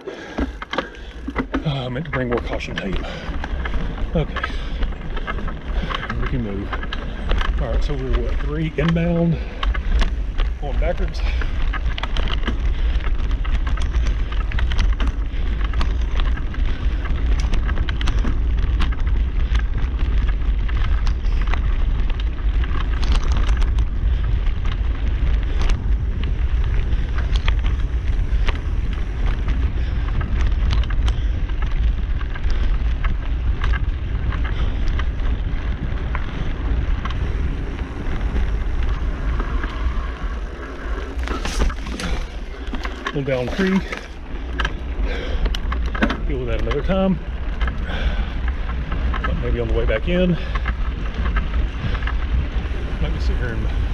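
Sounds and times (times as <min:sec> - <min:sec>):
bike rattling over bumps: 0:00.0 - 0:53.9
bike tyres on dirt: 0:00.0 - 0:53.9
wind rumble on microphone: 0:00.0 - 0:53.9.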